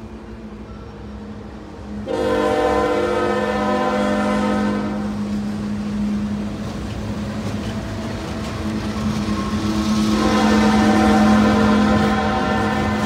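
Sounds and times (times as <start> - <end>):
diesel locomotive engine hum: 0.0 - 13.0
train wheels rumbling on rails: 0.0 - 13.0.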